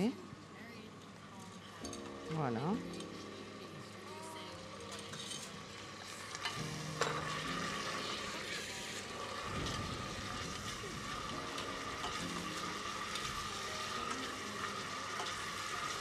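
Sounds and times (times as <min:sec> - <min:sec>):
leeks sizzling in oil: 0:01.9 - 0:16.0
water boiling: 0:01.9 - 0:16.0.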